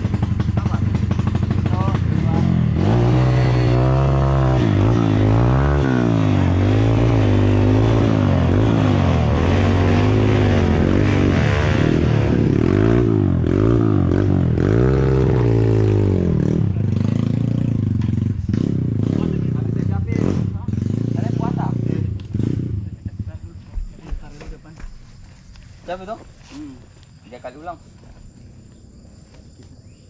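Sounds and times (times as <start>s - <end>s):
motorcycle engine revving: 0.0s - 24.7s.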